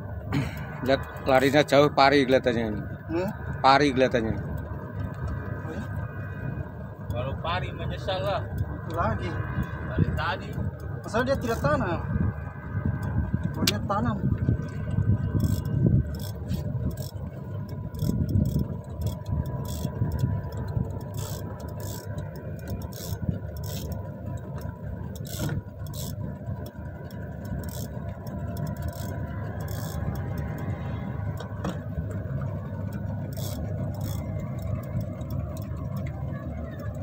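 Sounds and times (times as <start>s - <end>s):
boat engine rumbling: 0.0s - 37.0s
faint sharp ticks: 4.2s - 37.0s.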